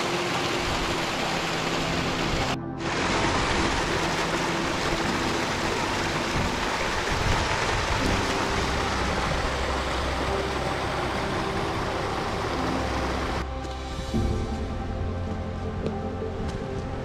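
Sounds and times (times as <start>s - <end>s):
rushing water: 0.0s - 14.4s.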